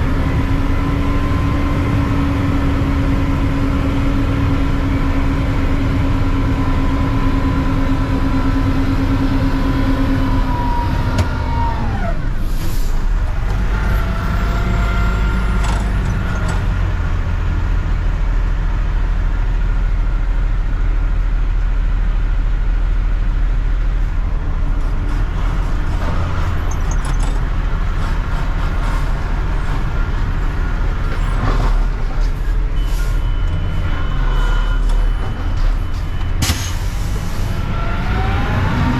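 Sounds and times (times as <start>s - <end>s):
garbage truck whine: 0.0s - 18.8s, 23.7s - 38.9s
low engine rumble: 0.0s - 38.9s.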